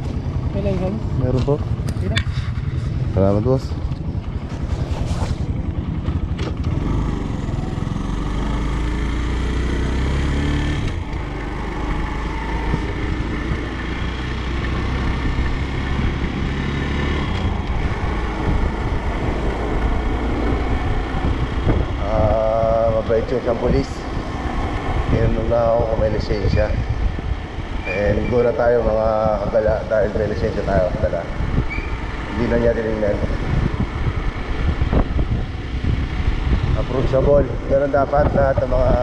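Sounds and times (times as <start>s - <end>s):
motorcycle engine drone: 0.0s - 39.0s
road noise: 0.0s - 39.0s.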